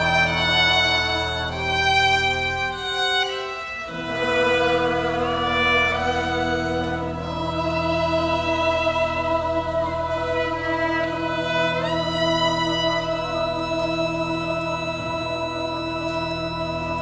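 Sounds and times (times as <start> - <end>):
pipe organ chords: 0.0 - 17.0
solo violin melody: 0.0 - 17.0.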